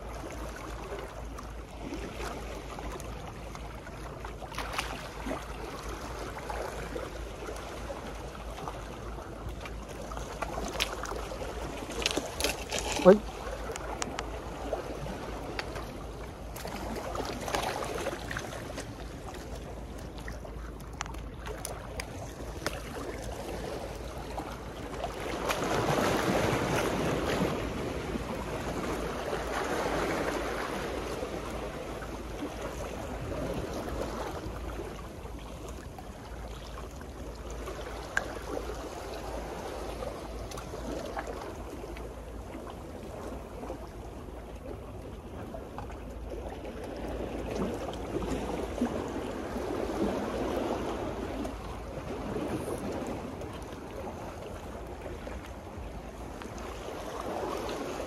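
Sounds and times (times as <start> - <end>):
waves washing against seawall: 0.0 - 58.0.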